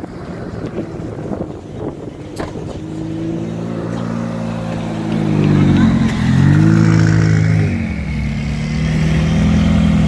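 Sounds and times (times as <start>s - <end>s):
car engine low drone: 0.0s - 10.0s.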